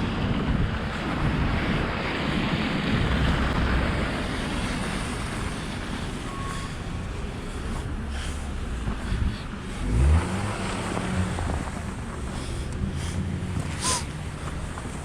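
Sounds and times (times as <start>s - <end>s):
cars passing with low rumble: 0.0s - 15.0s
wind on microphone: 0.0s - 15.0s.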